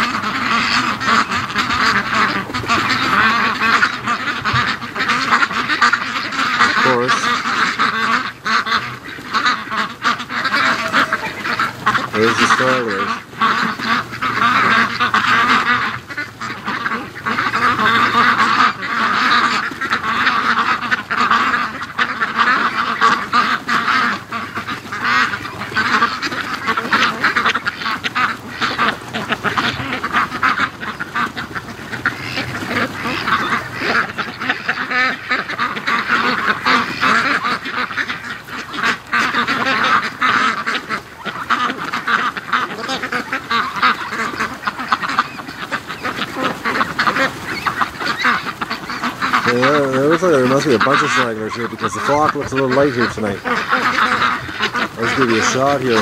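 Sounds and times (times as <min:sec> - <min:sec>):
ducks quacking: 0:00.0 - 0:56.0.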